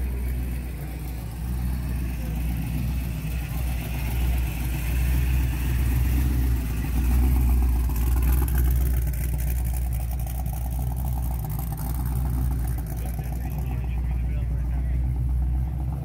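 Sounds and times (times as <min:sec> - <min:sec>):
car engine exhaust rumble: 0:00.0 - 0:16.0.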